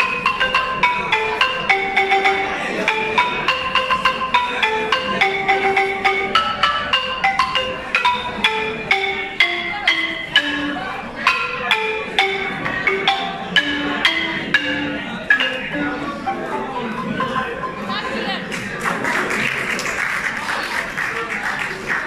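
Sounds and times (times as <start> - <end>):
wooden xylophone melody: 0.0 - 19.3.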